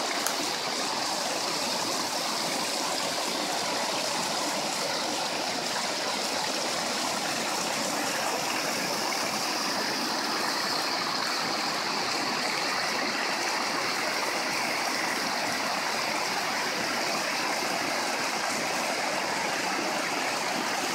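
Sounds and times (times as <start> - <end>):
water rushing over a weir: 0.0 - 20.9.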